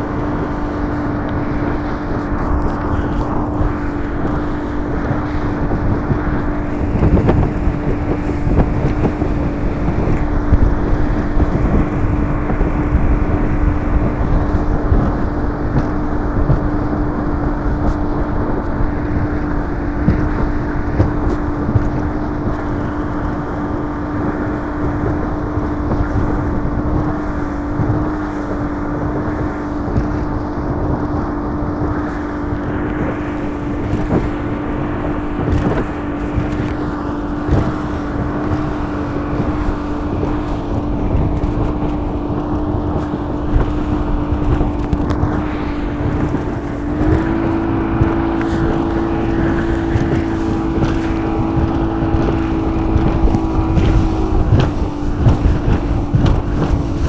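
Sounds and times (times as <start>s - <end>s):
outboard engine cruising: 0.0s - 57.0s
wind rumble on microphone: 0.0s - 57.0s.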